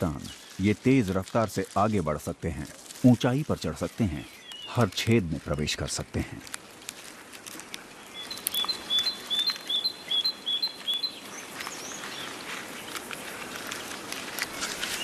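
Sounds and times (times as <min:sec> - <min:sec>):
faint outdoor hiss: 0:00.0 - 0:15.0
songbird chirping: 0:00.0 - 0:15.0.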